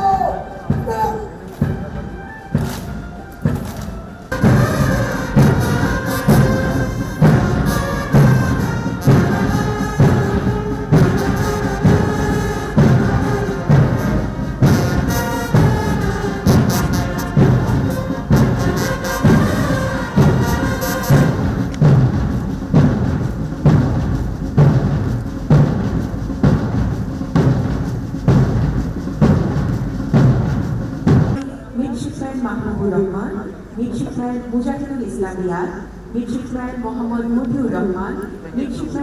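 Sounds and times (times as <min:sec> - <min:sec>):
heavy drum beat: 0:00.0 - 0:31.4
military brass band march: 0:00.0 - 0:31.4.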